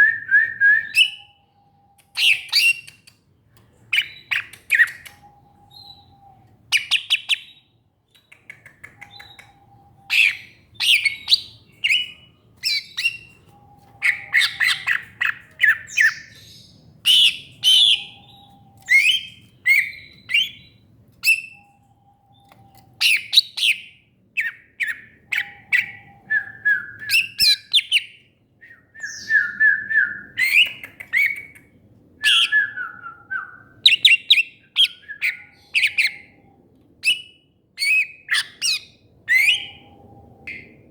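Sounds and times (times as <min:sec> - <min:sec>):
bird chirping and whistling: 0:00.0 - 0:01.6, 0:04.0 - 0:07.6, 0:09.0 - 0:28.1, 0:28.7 - 0:31.4, 0:32.2 - 0:36.4, 0:37.0 - 0:40.8.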